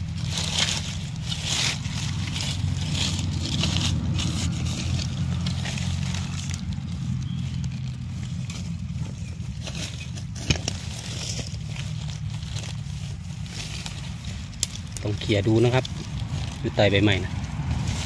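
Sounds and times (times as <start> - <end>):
dry leaves rustling underfoot: 0.0 - 18.0.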